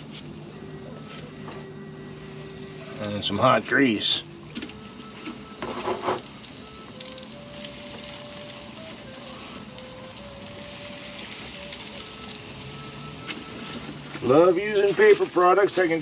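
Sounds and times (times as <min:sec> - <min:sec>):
chicken sizzling in oil: 0:02.0 - 0:16.0.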